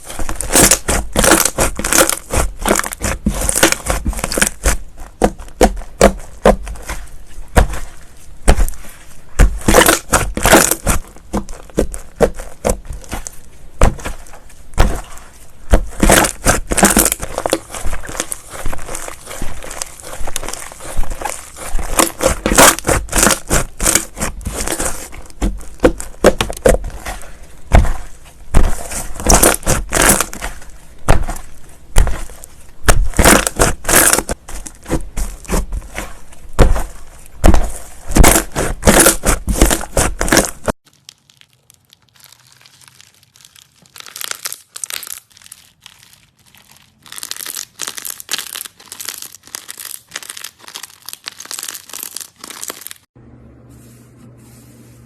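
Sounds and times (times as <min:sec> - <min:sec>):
slime crackling and popping: 0:00.0 - 0:53.2.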